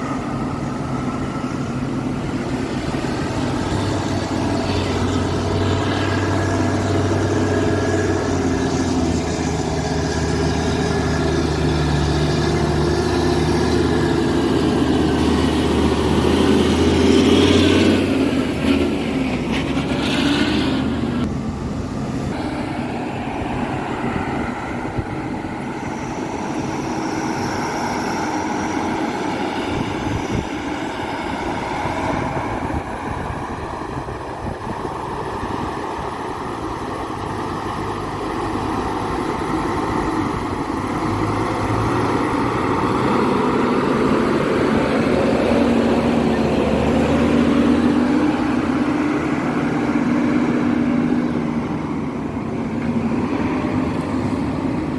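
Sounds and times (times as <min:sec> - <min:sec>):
excavator diesel engine working: 0:00.0 - 0:54.9.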